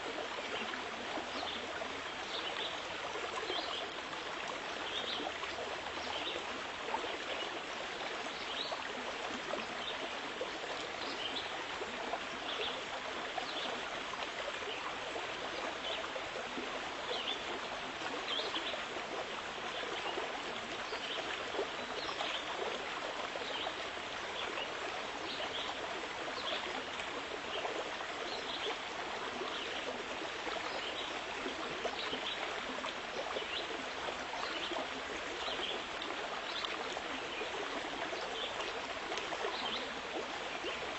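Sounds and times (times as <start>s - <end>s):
running water flowing: 0.0s - 40.9s.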